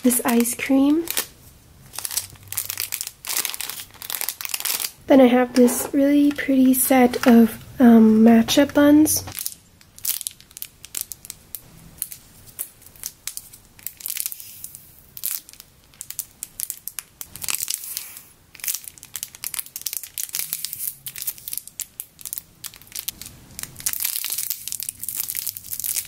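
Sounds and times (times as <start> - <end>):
plastic bags crinkling: 0.0 - 7.5, 9.2 - 26.0.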